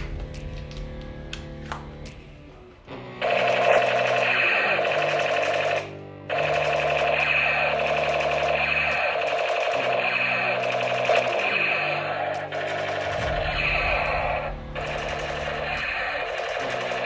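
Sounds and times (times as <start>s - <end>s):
low background music: 0.0s - 17.0s.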